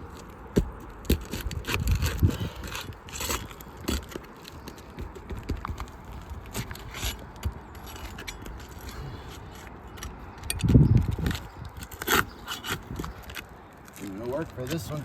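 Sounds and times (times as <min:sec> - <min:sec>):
pry bar scraping shingles: 0:00.0 - 0:15.0.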